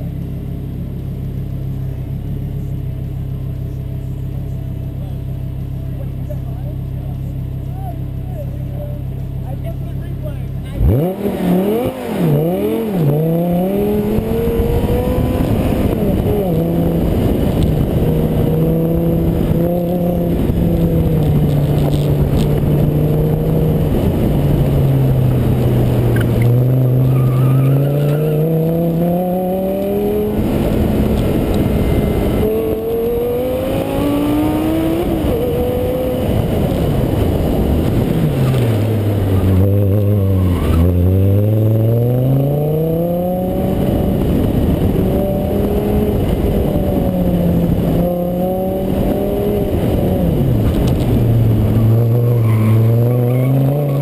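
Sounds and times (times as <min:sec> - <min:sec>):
sports car engine revving: 0:00.0 - 0:54.0.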